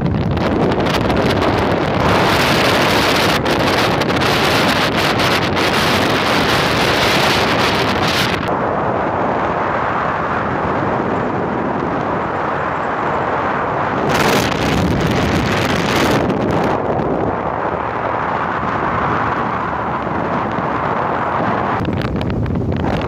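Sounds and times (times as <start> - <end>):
road and vehicle noise: 0.0 - 23.0
wind rushing on microphone: 0.0 - 23.0.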